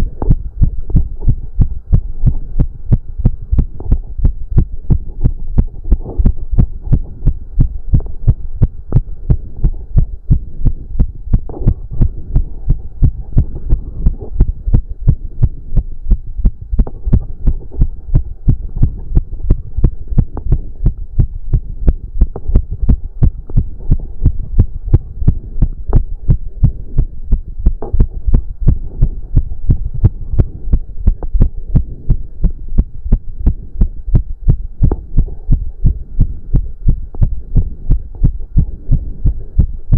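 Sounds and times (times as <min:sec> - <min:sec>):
heart beating fast: 0:00.0 - 0:39.9.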